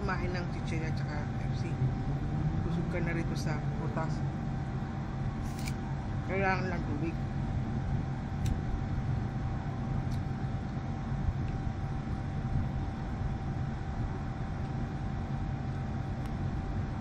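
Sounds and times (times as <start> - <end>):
machine rumble: 0.0 - 17.0
thin constant hum: 0.0 - 17.0.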